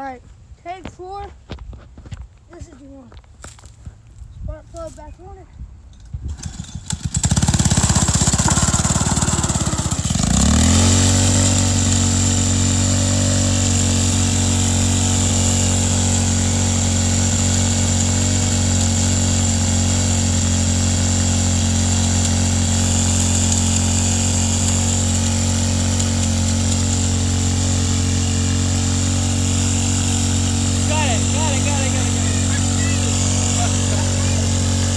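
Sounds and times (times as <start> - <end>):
small engine revving: 6.2 - 34.9.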